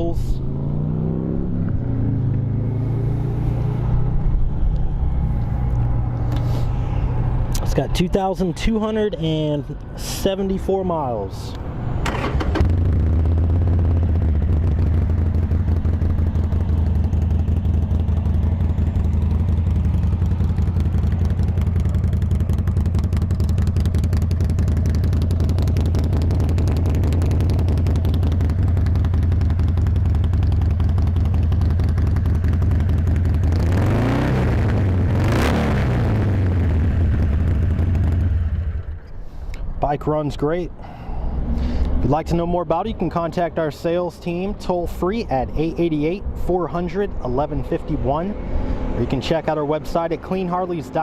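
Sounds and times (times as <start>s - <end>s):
motorcycle engine idling and revving: 0.0s - 51.0s.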